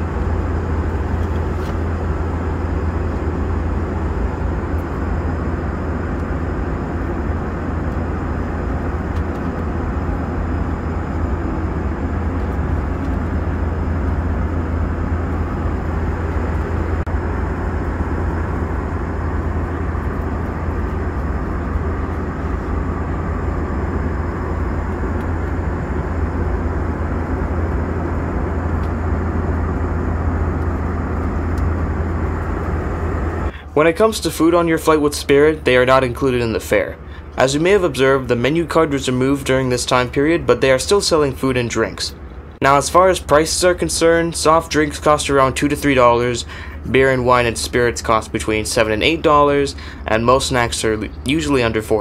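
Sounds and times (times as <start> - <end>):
airplane cabin roar: 0.0 - 52.0
faint high whine: 0.0 - 52.0.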